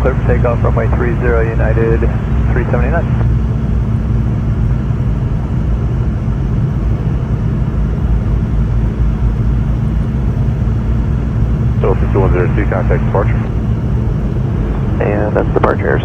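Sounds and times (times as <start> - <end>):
aircraft cabin engine rumble: 0.0 - 16.0
constant low drone: 0.0 - 16.0.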